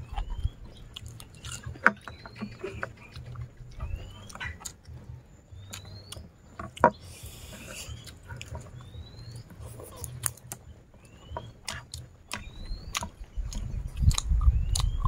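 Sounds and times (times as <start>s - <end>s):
chewing and lip smacking: 0.0s - 15.0s.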